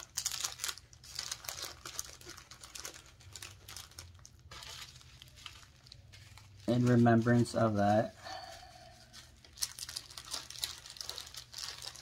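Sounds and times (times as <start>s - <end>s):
packaging crinkling and rustling: 0.0s - 8.0s, 9.0s - 12.0s.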